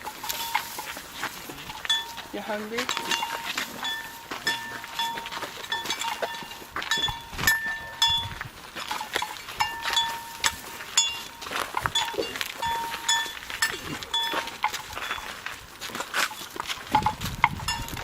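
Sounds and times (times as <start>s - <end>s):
bell clanking: 0.0s - 15.5s, 16.2s - 18.0s.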